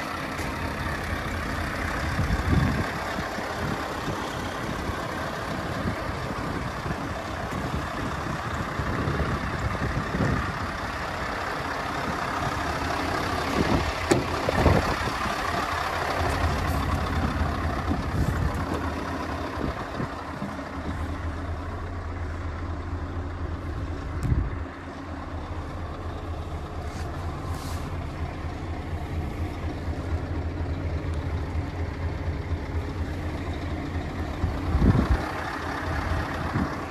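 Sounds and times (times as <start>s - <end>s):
diesel engine idling: 0.0s - 36.9s.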